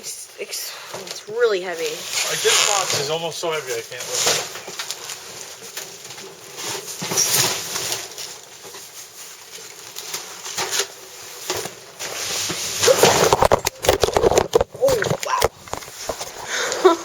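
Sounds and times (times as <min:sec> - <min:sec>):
cardboard boxes scraping and rustling: 0:01.6 - 0:16.4.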